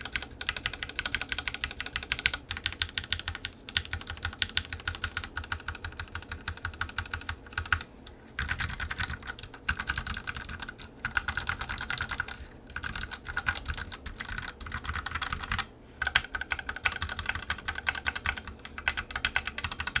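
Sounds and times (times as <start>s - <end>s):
fast typing on mechanical keyboard: 0.0s - 7.8s, 8.4s - 20.0s.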